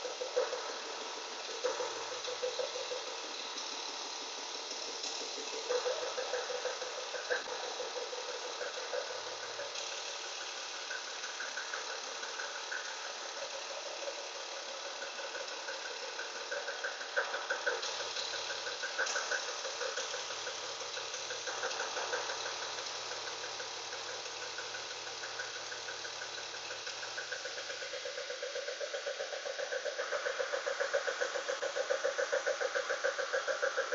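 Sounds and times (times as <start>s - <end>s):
car engine idling with knocking: 0.0s - 33.9s.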